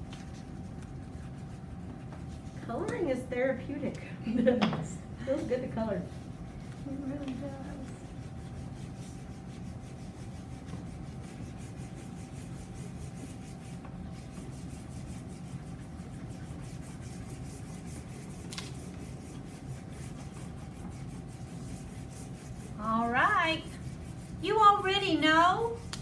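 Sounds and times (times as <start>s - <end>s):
crayon rubbing on paper: 0.2s - 3.2s, 5.5s - 25.9s.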